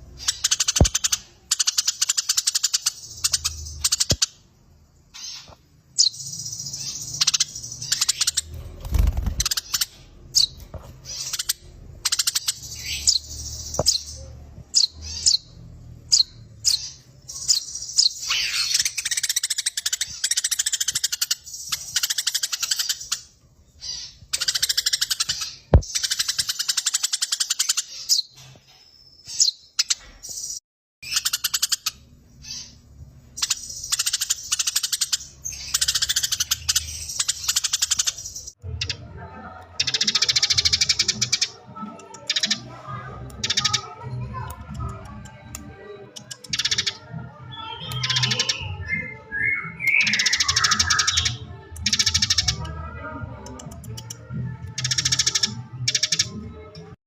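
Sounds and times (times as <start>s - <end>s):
sparrows chattering and chirping: 0.0s - 56.6s.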